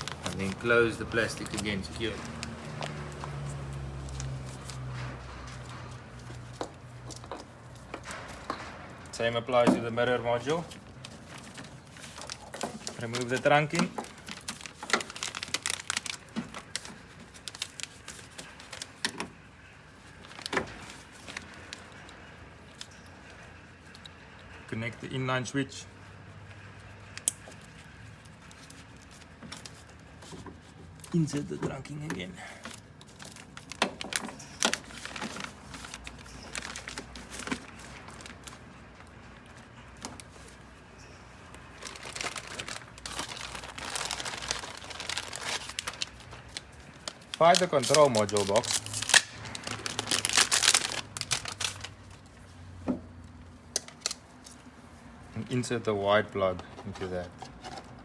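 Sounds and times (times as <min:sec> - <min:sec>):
plastic crinkling: 0:00.0 - 0:24.0, 0:26.8 - 0:52.6.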